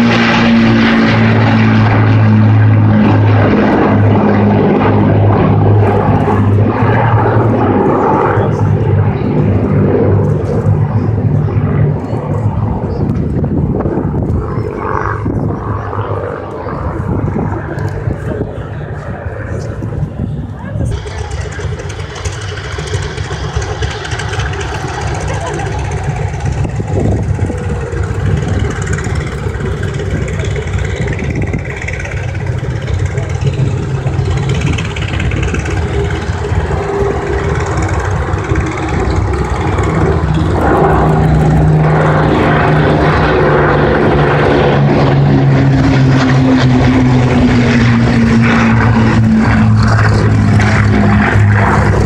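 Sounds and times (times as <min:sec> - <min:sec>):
propeller aircraft engine drone: 0:00.0 - 0:52.0.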